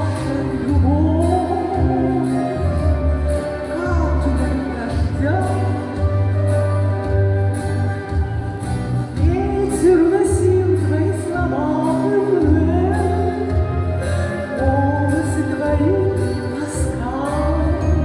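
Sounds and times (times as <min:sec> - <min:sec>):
person singing: 0:00.0 - 0:07.8, 0:09.2 - 0:18.0
pop song beat and bass: 0:00.0 - 0:18.0.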